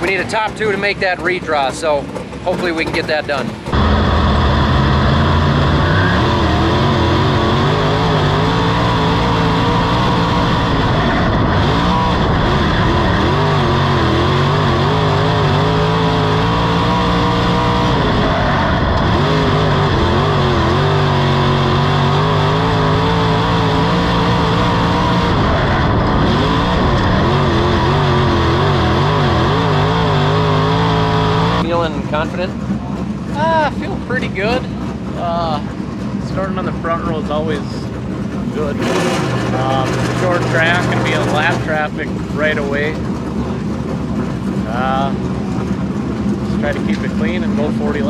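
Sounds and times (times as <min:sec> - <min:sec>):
race car engine revving: 0:00.0 - 0:48.0.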